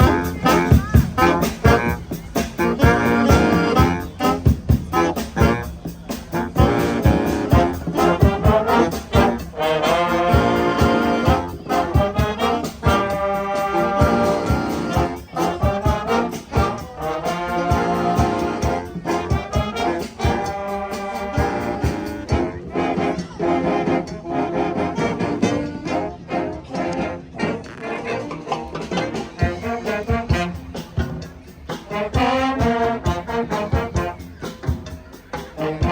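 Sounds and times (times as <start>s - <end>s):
upbeat brass music: 0.0s - 35.9s.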